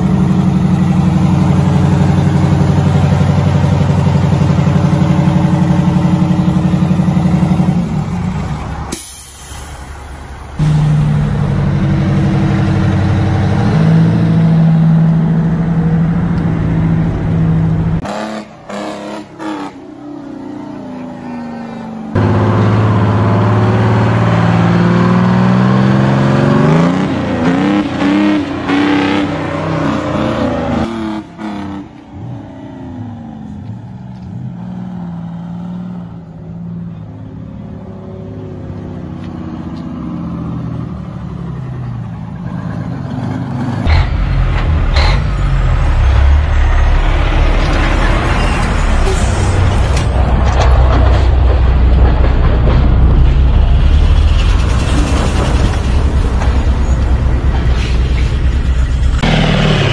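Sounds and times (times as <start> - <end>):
deep truck engine rumble: 0.0 - 59.9
diesel truck engine pulling away: 0.0 - 59.9.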